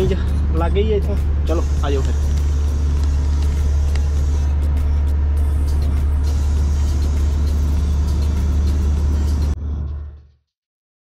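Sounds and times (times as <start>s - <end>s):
road noise: 0.0s - 10.5s
truck engine drone: 0.0s - 10.5s.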